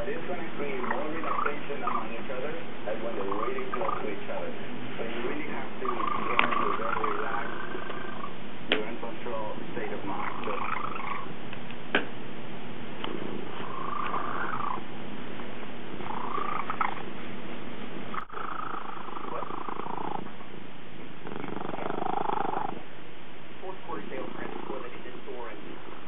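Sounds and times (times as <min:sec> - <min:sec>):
cat purring: 0:00.0 - 0:11.4, 0:13.0 - 0:14.9, 0:15.9 - 0:17.1, 0:18.1 - 0:22.8, 0:23.9 - 0:26.0.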